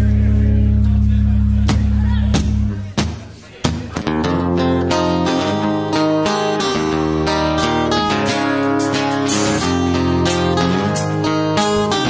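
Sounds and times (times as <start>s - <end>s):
guitar song with steady beat: 0.0s - 12.0s.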